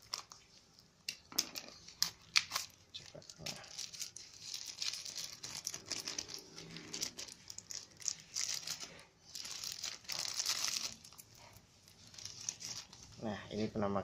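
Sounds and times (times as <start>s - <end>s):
packaging crinkling and tearing: 0.0s - 13.2s.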